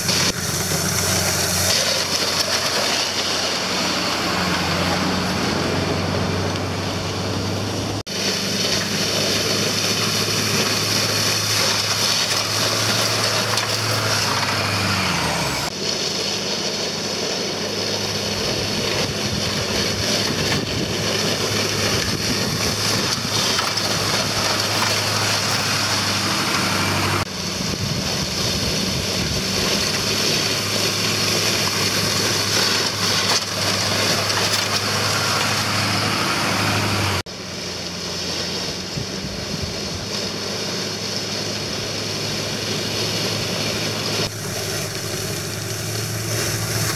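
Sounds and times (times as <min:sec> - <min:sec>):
gravel scraping and crunching: 0:00.0 - 0:46.9
truck engine running under load: 0:00.0 - 0:46.9.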